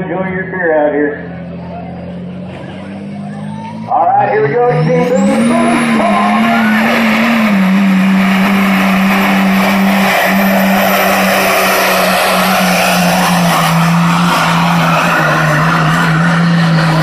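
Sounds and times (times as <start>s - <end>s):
diesel truck engine at full throttle: 0.0s - 17.0s
exhaust noise rushing: 0.0s - 17.0s.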